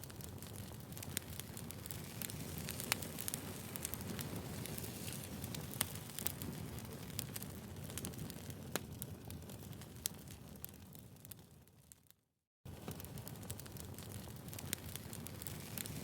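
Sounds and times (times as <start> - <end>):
firewood crackling and popping: 0.0 - 12.1, 12.7 - 16.0.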